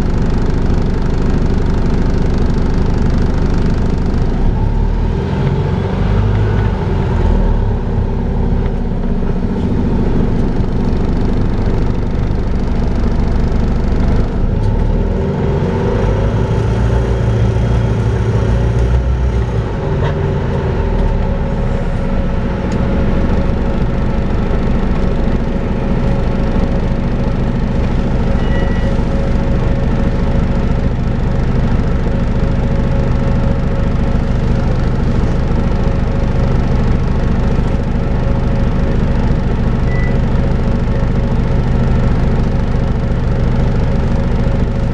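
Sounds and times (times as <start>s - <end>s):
bus diesel engine droning: 0.0s - 44.9s
steady whine: 0.0s - 44.9s.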